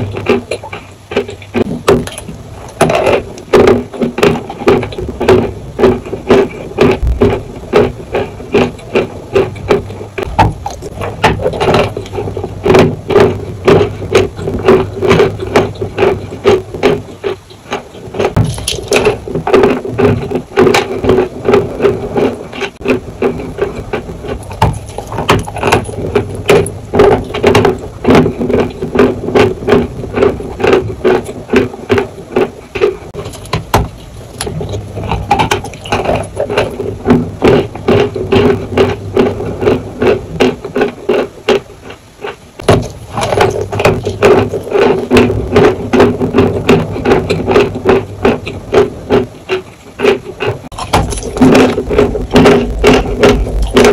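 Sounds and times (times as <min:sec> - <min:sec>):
chewing crunchy chalk: 0:00.0 - 0:53.9.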